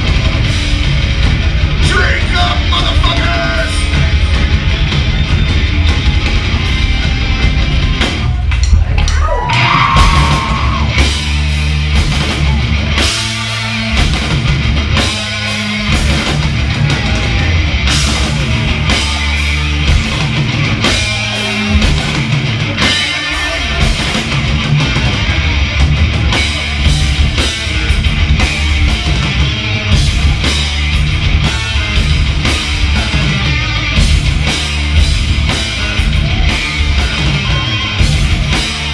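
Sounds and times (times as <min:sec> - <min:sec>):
hard rock band playing live: 0:00.0 - 0:38.9.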